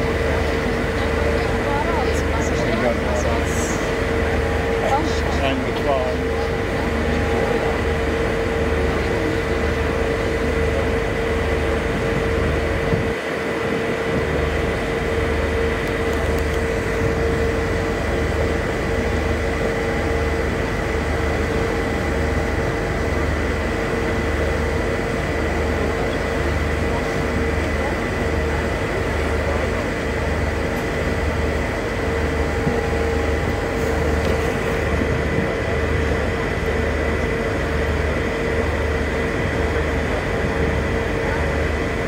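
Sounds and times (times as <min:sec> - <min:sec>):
boat engine drone: 0:00.0 - 0:42.0.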